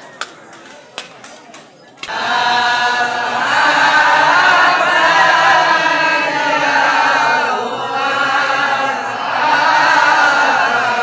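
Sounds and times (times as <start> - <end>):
group chanting: 2.1 - 11.0.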